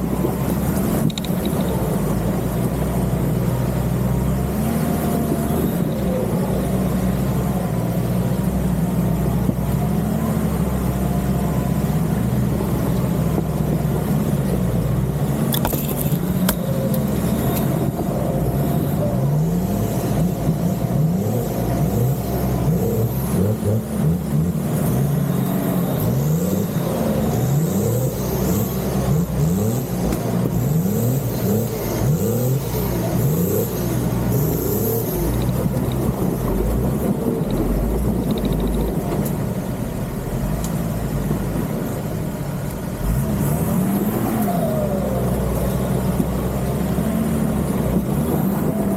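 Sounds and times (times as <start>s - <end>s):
off-road engine revving: 0.0s - 48.9s.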